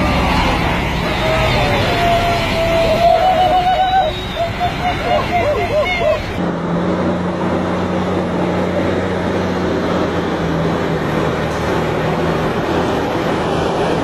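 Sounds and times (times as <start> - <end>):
constant rushing noise: 0.0 - 14.0
diesel truck engine drone: 0.0 - 14.0.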